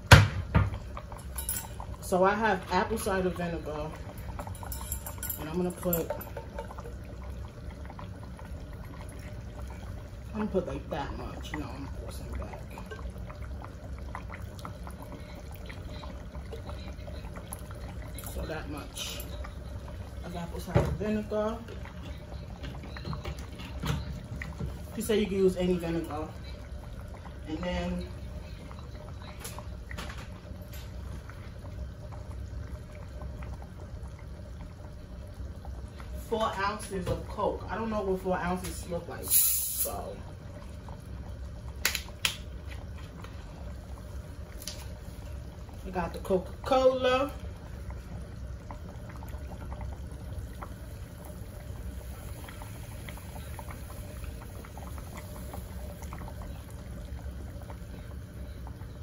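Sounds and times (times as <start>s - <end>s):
sauce bubbling in a pot: 0.0s - 59.0s.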